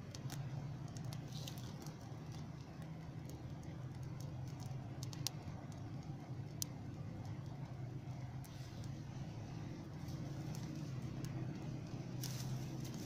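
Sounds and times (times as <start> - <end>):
steady low hum: 0.0 - 13.0
wood fire crackling and popping: 0.0 - 13.0.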